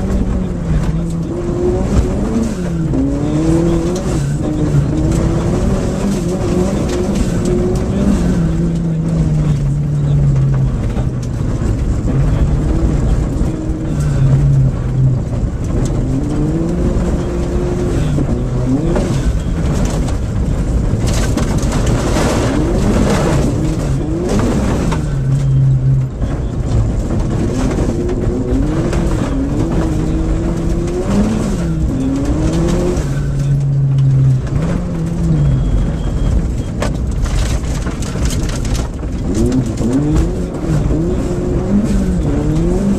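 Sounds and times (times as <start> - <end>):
rally car engine revving: 0.0 - 42.9
stones clattering against car: 0.0 - 42.9
tyre and gravel noise: 0.0 - 42.9.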